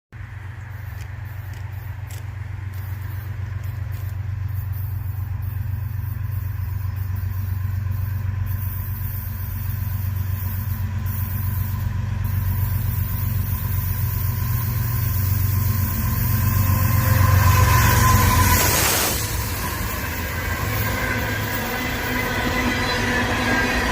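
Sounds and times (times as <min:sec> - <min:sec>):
diesel locomotive engines droning: 0:00.2 - 0:23.9.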